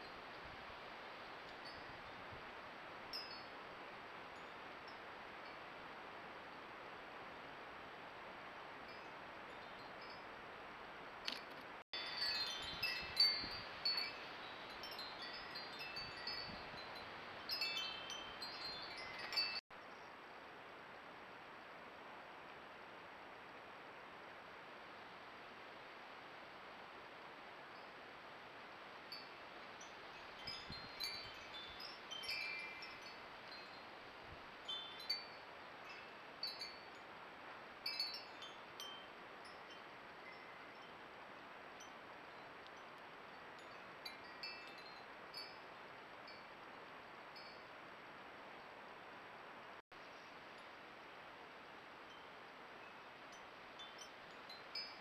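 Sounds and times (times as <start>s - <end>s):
faint steady hiss: 0.0s - 55.0s.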